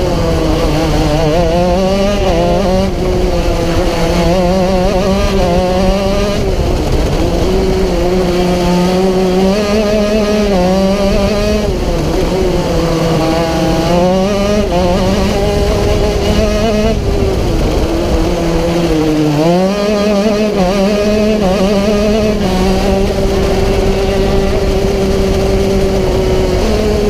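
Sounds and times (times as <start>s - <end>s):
racing kart engine: 0.0s - 27.0s.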